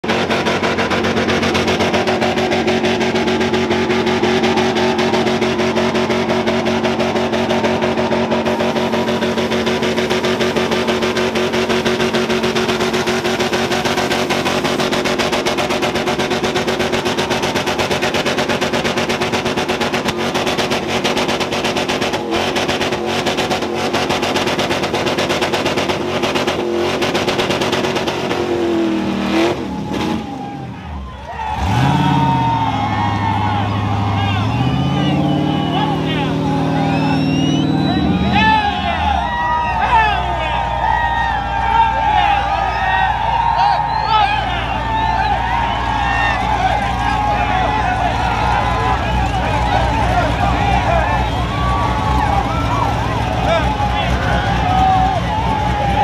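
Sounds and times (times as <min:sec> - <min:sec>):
engine at high revs: 0:00.0 - 0:56.0.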